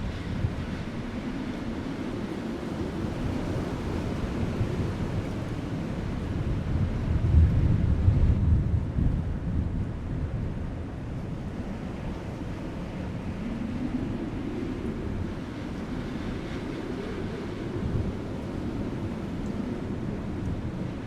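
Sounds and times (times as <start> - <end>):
soft wind: 0.0 - 21.0.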